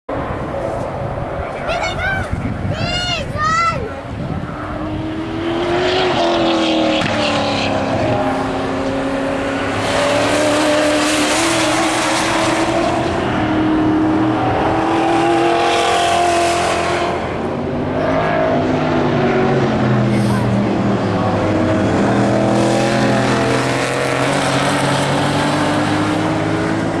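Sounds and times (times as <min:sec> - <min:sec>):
race car engines passing: 0:00.1 - 0:27.0.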